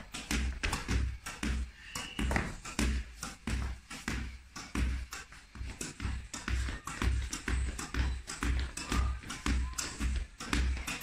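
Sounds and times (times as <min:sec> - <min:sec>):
squash ball hitting racket and wall: 0:00.0 - 0:11.0.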